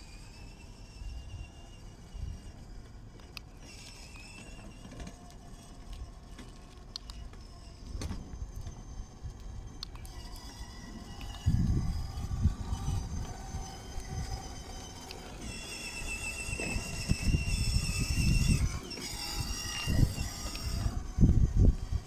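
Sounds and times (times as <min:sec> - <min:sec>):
high electric motor whine: 0:00.0 - 0:22.0
toy car wheels rumbling on concrete: 0:00.0 - 0:22.0.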